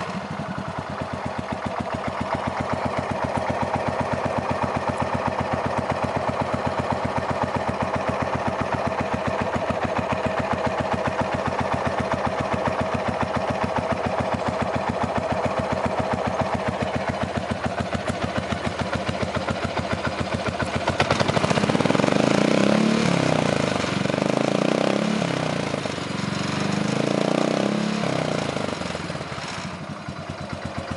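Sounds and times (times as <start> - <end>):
motorcycle engine idling: 0.0 - 30.9
motorcycle engine revving: 0.0 - 30.9.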